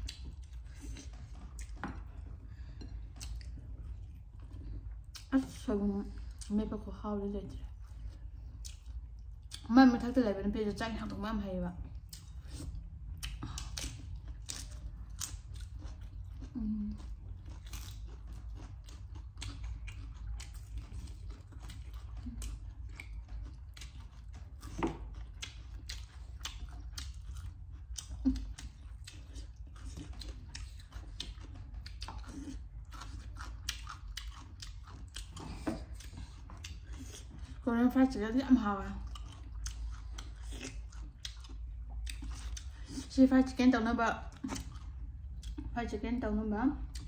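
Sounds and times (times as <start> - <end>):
chewing with crisp crunches: 0.0 - 46.0, 46.7 - 47.0
steady low hum: 0.0 - 47.0.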